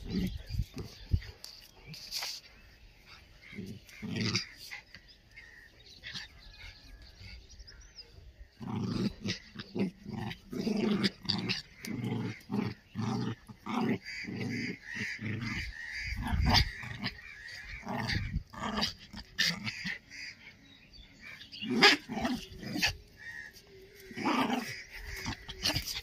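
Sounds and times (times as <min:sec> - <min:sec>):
dogs growling and snarling: 0:00.0 - 0:26.0.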